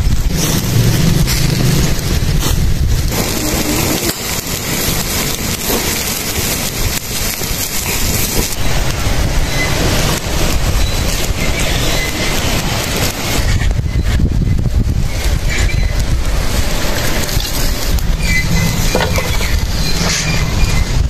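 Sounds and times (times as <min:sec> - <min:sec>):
fat sizzling on hot charcoal: 0:00.0 - 0:21.0
low rumble: 0:00.0 - 0:21.0.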